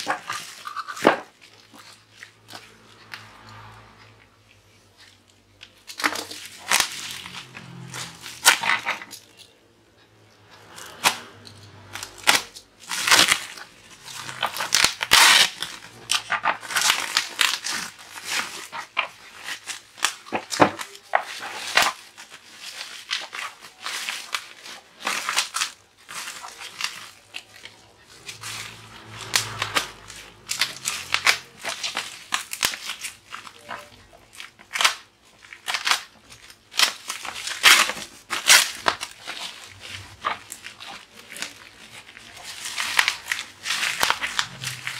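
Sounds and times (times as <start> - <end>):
plastic wrapping crinkling and tearing: 0.0 - 3.7, 4.5 - 9.6, 10.4 - 44.9.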